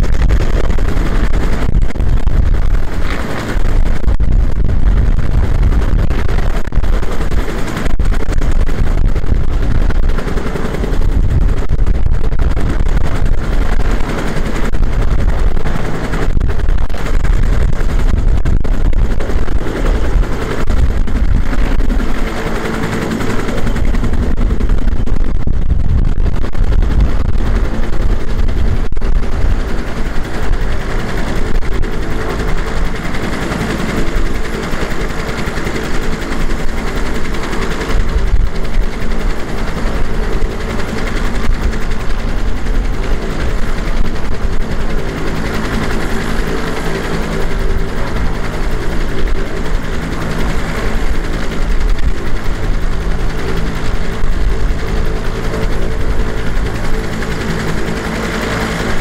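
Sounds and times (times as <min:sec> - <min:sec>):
helicopter rotor chopping: 0:00.0 - 0:59.0.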